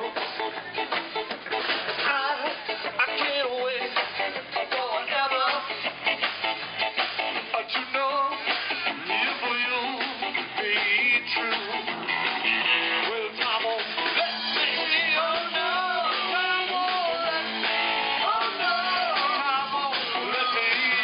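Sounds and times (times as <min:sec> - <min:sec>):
drums: 0:00.0 - 0:21.0
electric guitar: 0:00.0 - 0:21.0.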